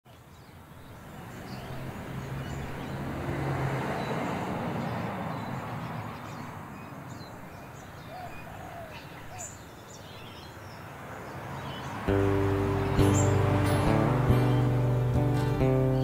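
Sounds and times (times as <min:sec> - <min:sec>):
street noise: 0:00.1 - 0:16.0.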